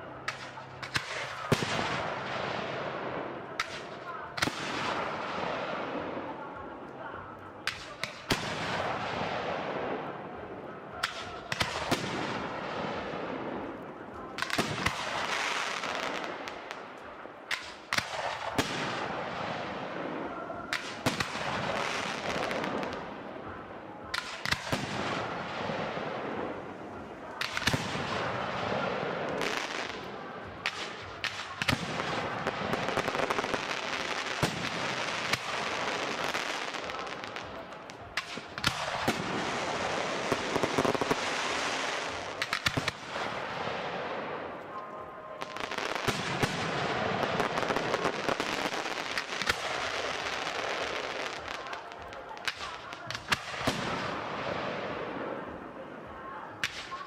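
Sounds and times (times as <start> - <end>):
firework crackling: 0.0 - 55.6.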